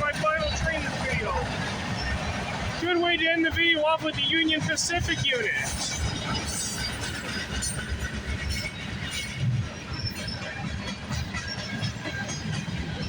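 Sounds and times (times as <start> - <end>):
train cars clicking and clanking: 0.0 - 13.0
train wheels rumbling on rails: 0.0 - 13.0.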